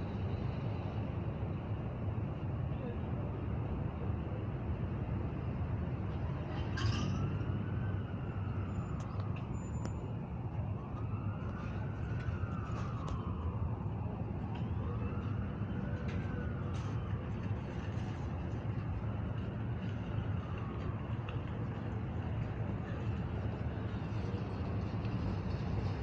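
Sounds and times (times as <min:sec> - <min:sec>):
wailing siren: 0:00.1 - 0:26.0.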